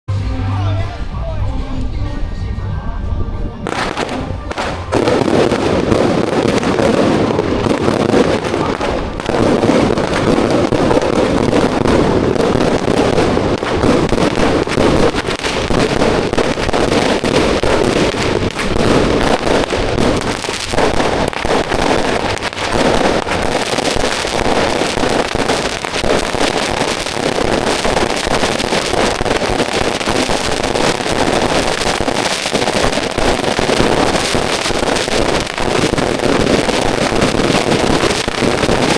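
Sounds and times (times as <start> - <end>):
firecrackers crackling: 3.6 - 38.9.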